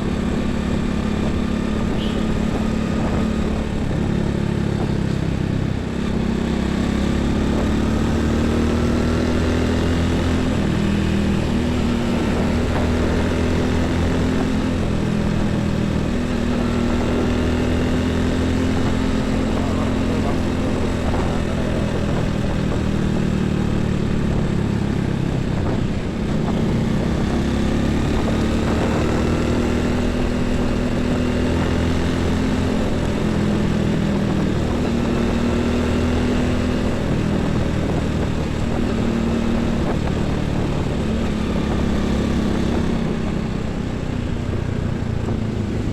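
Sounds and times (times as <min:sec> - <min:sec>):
truck diesel engines running: 0:00.0 - 0:45.9
tyre and road noise: 0:00.0 - 0:45.9.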